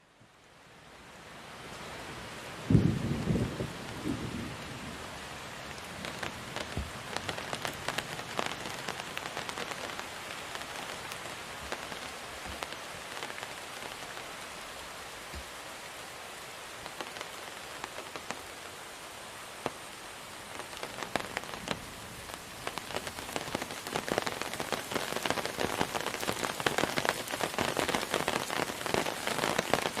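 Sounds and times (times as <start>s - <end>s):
rain falling: 0.0s - 30.0s
raindrops pattering on a surface: 1.6s - 30.0s.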